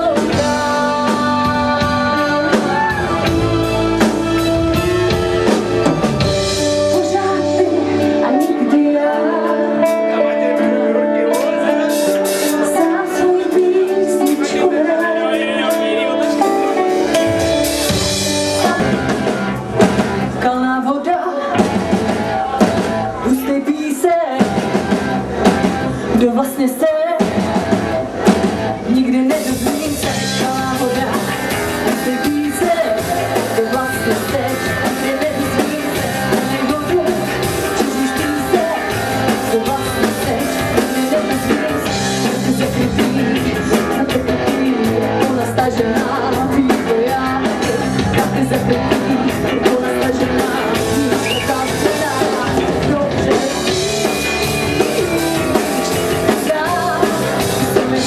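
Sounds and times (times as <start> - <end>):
bass guitar: 0.0 - 58.0
drum kit: 0.0 - 58.0
electric guitar: 0.0 - 58.0
woman singing: 0.0 - 58.0.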